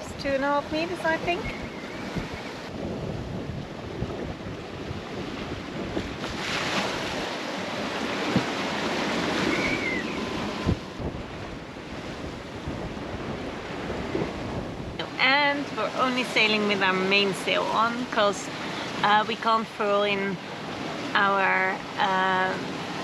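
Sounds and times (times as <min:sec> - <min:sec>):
breaking waves: 0:00.0 - 0:23.0
wind buffeting microphone: 0:00.0 - 0:23.0.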